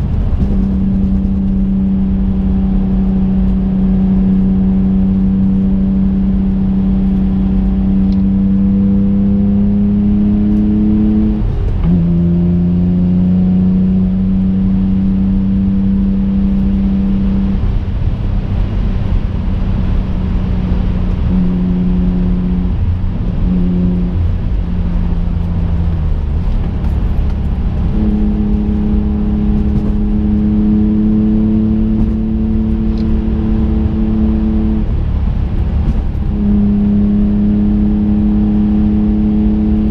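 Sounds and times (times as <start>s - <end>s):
car engine driving: 0.0s - 39.9s
road noise: 0.0s - 39.9s.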